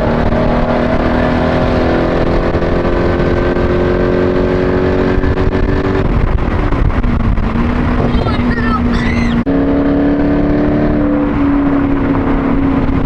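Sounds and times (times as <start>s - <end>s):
car engine revving while driving: 0.0s - 8.2s, 9.3s - 13.0s.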